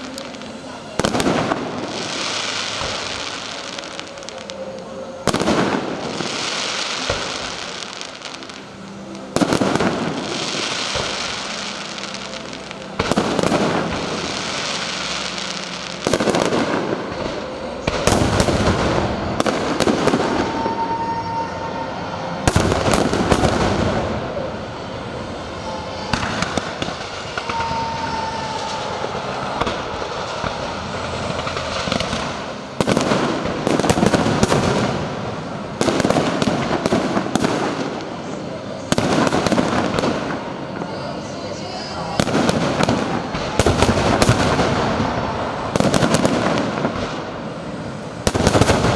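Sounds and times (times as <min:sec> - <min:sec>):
firework crackling: 0:00.0 - 0:48.9.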